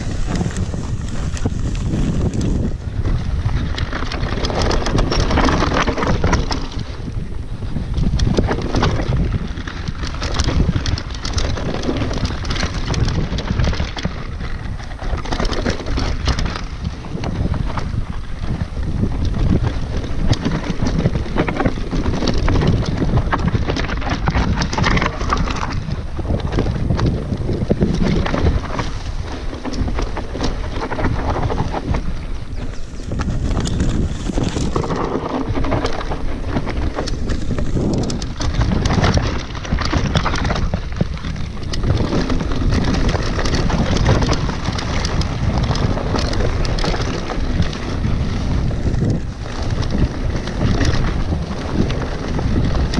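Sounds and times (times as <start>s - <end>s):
bike brushing through grass: 0.0s - 52.9s
bike rattling over bumps: 0.0s - 52.9s
wind buffeting microphone: 0.0s - 52.9s.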